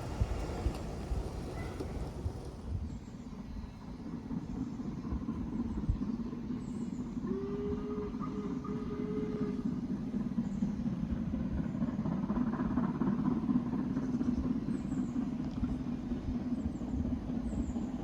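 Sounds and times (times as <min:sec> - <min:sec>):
diesel train engine rumbling: 0:00.0 - 0:18.0.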